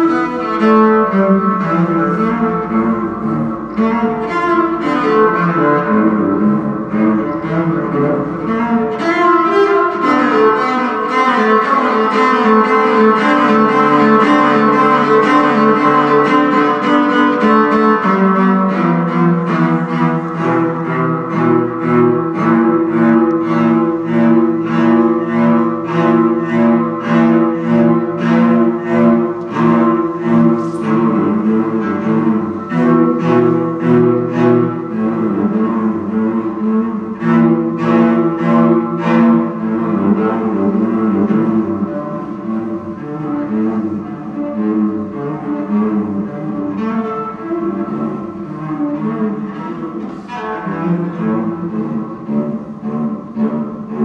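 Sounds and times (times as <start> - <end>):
solo cello playing: 0.0 - 54.0.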